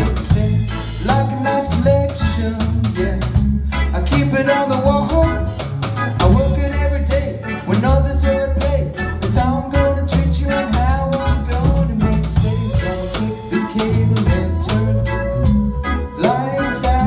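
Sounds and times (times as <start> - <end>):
live pop music: 0.0 - 17.0
person singing: 0.0 - 17.0.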